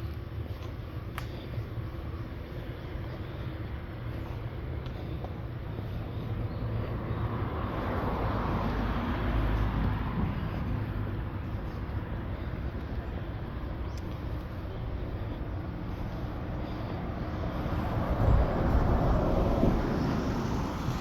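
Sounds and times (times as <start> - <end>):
background traffic: 0.0 - 21.0
motor vehicle passing: 4.1 - 21.0.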